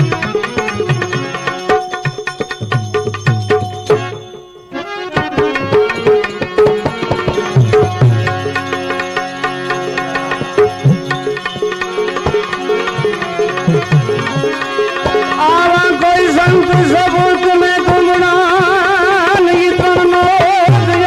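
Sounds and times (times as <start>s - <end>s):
sustained melody instrument: 0.0s - 21.0s
tabla drumming: 0.0s - 21.0s.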